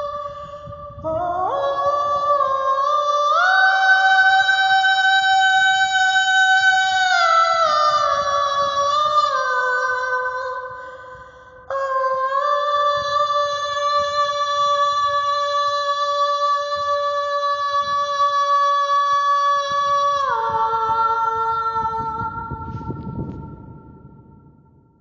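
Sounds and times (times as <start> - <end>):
wordless backing vocals chord: 0.0 - 24.3.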